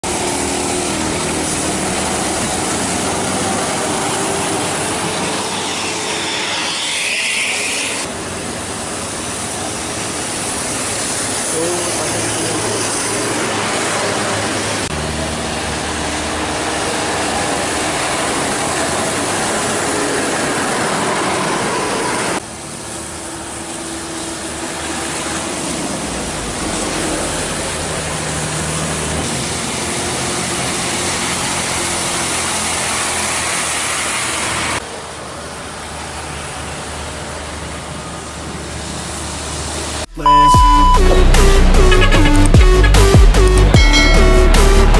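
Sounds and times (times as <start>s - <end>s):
tyres hissing on wet road: 0.0s - 40.1s
buses driving past: 0.0s - 44.9s.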